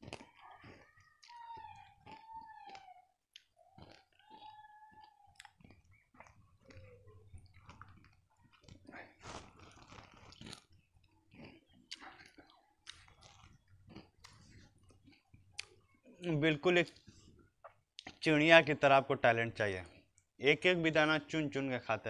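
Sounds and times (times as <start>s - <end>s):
crunchy chewing of puffed rice: 0.0s - 20.4s.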